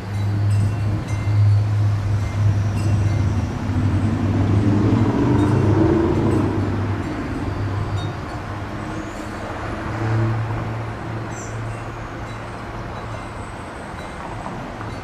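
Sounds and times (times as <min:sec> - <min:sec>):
diesel locomotive engines drone: 0:00.0 - 0:15.0.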